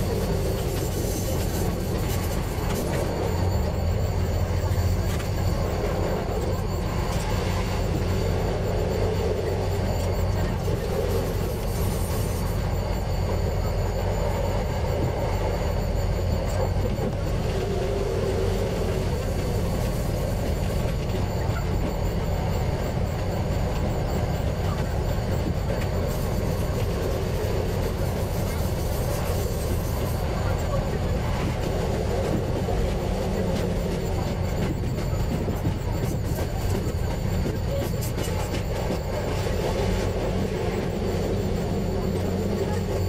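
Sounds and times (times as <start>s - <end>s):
diesel railcar engine drone: 0.0s - 43.0s
wheel and rail noise: 0.0s - 43.0s.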